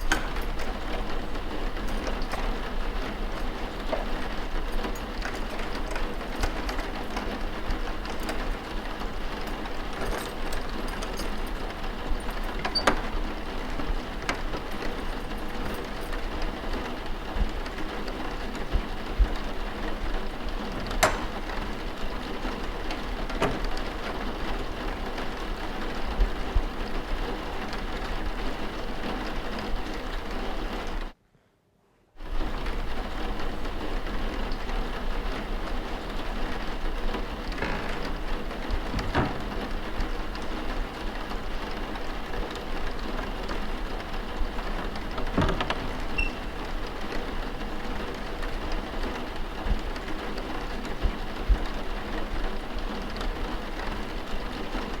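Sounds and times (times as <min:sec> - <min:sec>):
steady rain falling: 0:00.0 - 0:31.2, 0:32.2 - 0:55.0.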